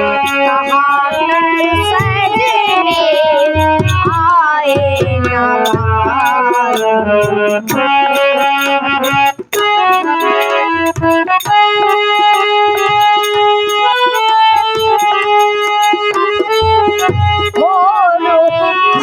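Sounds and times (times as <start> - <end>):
electronic keyboard melody: 0.0 - 19.0
light percussion: 0.0 - 19.0.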